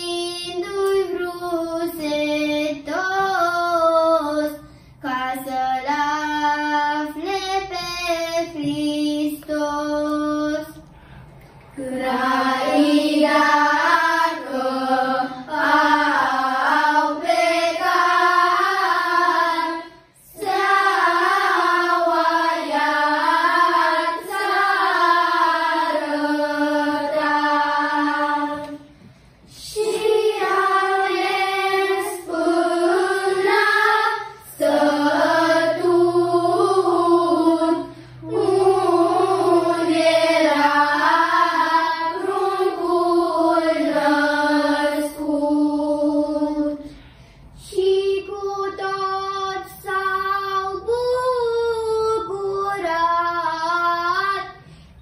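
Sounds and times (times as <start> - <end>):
children's choir singing a carol: 0.0 - 10.9, 11.7 - 55.0.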